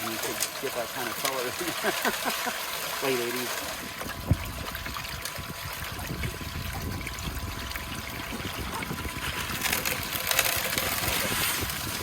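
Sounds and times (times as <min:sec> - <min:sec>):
water pouring through sluice: 0:00.0 - 0:12.0.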